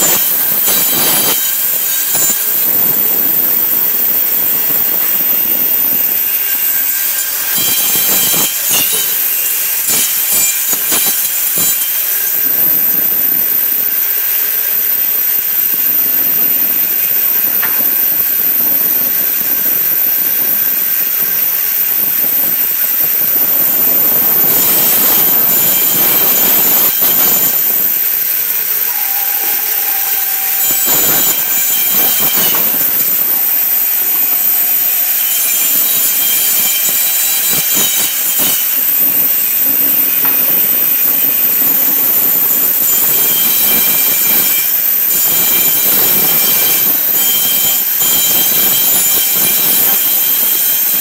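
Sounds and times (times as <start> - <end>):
band saw whining through nails: 0.0 - 51.0.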